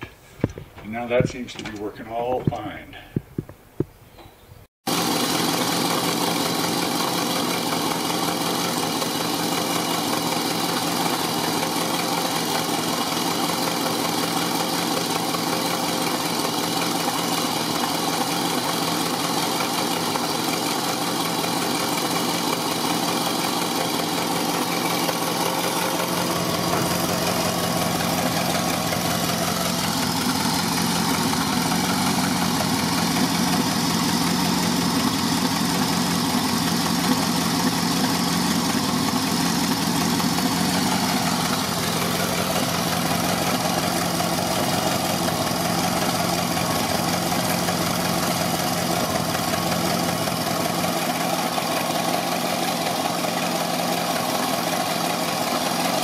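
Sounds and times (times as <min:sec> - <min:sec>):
car engine idling: 0:04.9 - 0:56.0.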